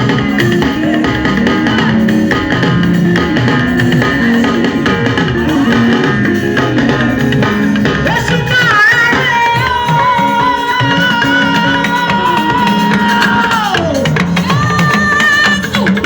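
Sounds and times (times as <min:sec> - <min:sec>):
gospel band music: 0:00.0 - 0:16.0.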